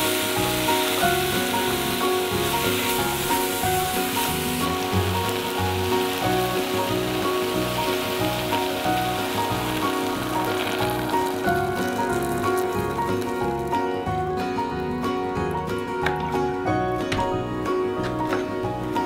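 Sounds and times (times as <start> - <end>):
apple sizzling in a saucepan: 0.0 - 15.5
background music: 0.0 - 19.0.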